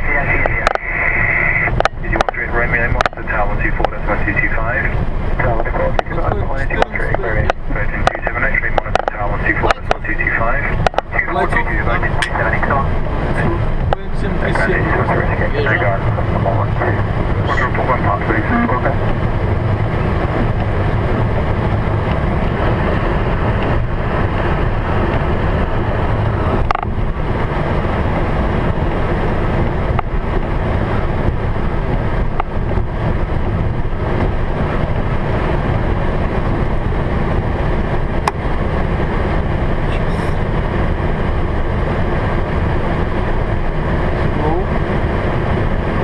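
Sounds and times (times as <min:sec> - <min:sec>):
aircraft cockpit rumble and hiss: 0:00.0 - 0:46.0.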